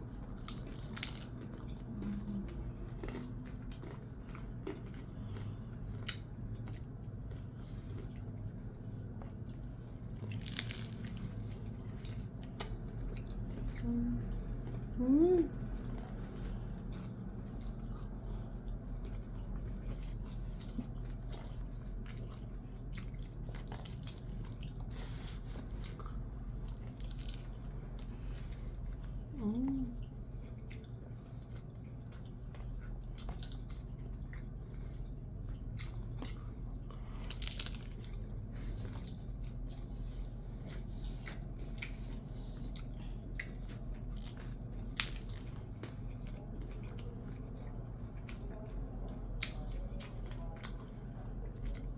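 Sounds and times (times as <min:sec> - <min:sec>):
chewing and crunching food: 0:00.0 - 0:51.9
steady low hum: 0:00.0 - 0:51.9.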